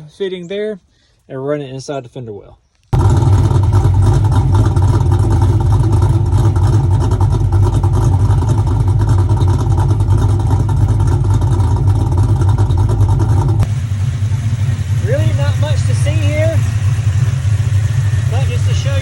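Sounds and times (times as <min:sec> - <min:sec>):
car engine rumbling: 0:03.0 - 0:19.0.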